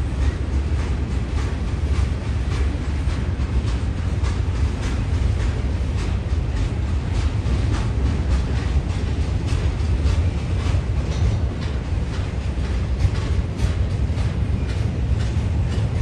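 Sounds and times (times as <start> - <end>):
freight train rumbling past: 0.0 - 16.0
wheels clicking over rail joints: 0.0 - 16.0.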